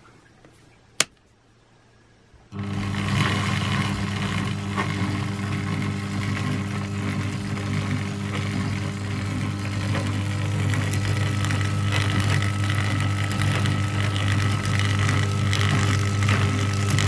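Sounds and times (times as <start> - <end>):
electric motor humming: 2.5 - 17.0.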